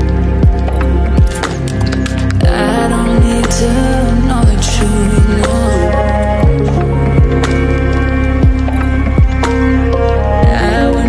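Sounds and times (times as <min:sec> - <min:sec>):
held synth chords: 0:00.0 - 0:11.0.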